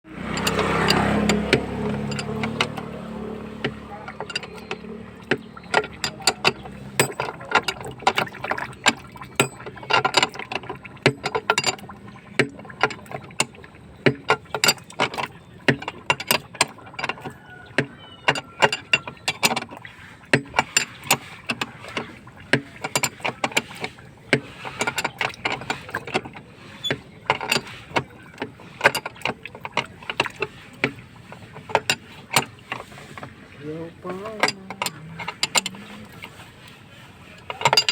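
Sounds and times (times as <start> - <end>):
hand tools tapping and clinking: 0.2 - 33.4, 34.0 - 37.9.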